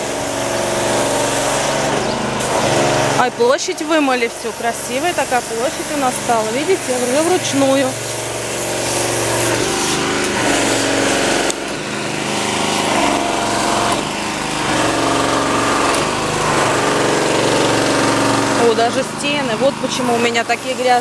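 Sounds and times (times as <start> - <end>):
hissing water jet: 0.0 - 21.0
small petrol engine running: 0.0 - 21.0.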